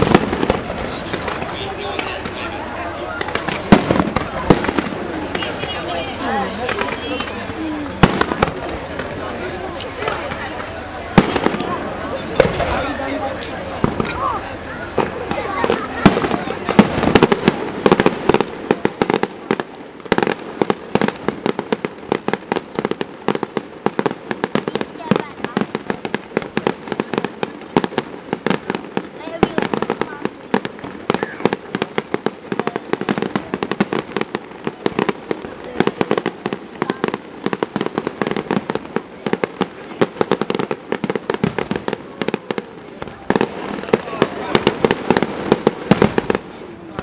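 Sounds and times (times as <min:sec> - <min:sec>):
fireworks banging: 0:00.0 - 0:47.0.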